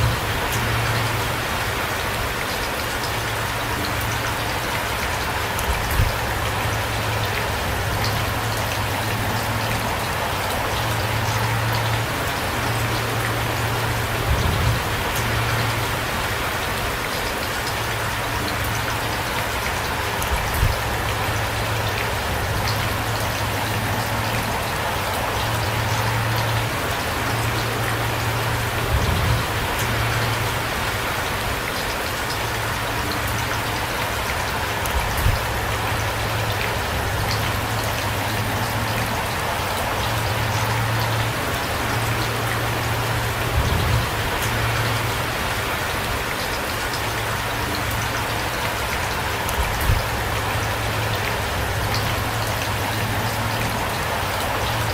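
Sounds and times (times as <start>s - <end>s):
heavy rain patter: 0.0s - 54.9s.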